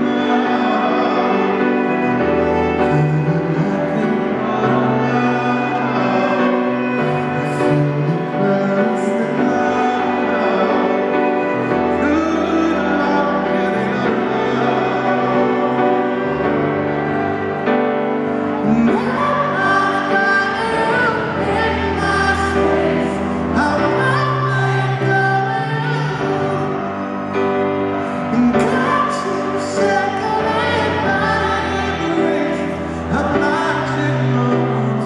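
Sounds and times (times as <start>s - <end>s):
high male voice singing: 0.0s - 16.4s, 18.6s - 27.0s, 28.0s - 35.0s
distant live ballad in arena: 0.0s - 35.0s.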